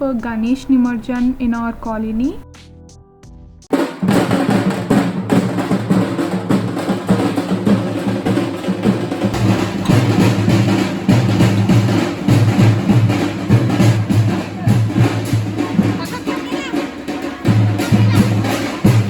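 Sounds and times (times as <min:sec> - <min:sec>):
loud fast drumming: 0:03.7 - 0:19.0.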